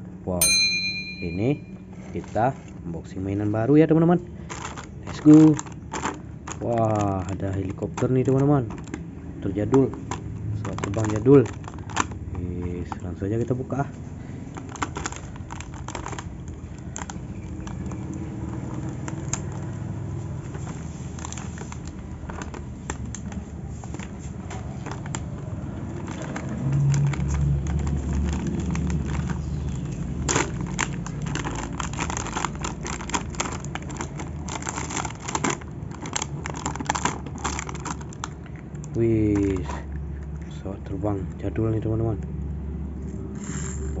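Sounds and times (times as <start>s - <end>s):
plastic packaging crinkling: 1.3s - 40.4s.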